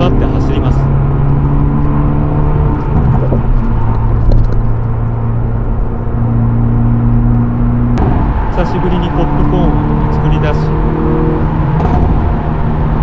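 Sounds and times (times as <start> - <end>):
car engine running hard: 0.0 - 13.0
road and tyre noise: 0.0 - 13.0.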